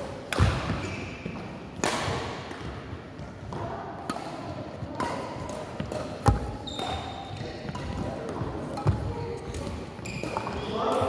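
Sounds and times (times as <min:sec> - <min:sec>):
court shoes squeaking: 0:00.0 - 0:11.0
racket hitting shuttlecock: 0:00.0 - 0:11.0.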